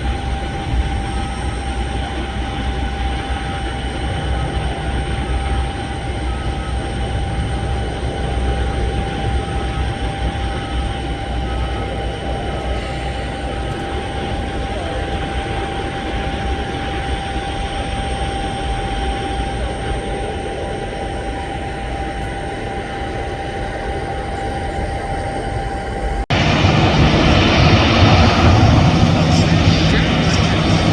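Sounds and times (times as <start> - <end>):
jet engines running with whine: 0.0 - 30.9.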